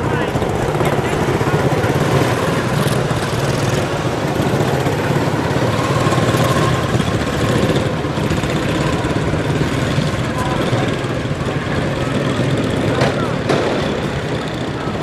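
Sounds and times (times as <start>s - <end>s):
small race car engines running: 0.0s - 15.0s.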